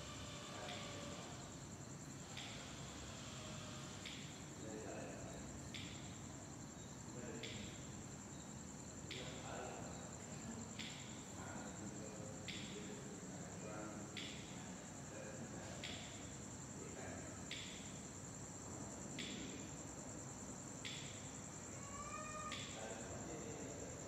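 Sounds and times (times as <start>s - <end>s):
faint distant voices: 0.0s - 17.6s, 21.5s - 24.0s
shrill insect-like tone: 0.0s - 24.0s.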